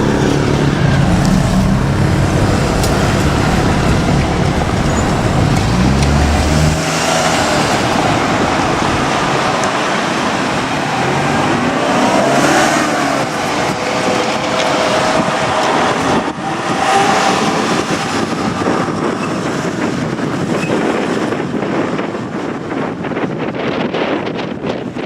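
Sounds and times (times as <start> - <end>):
electric train running past: 0.0 - 20.8.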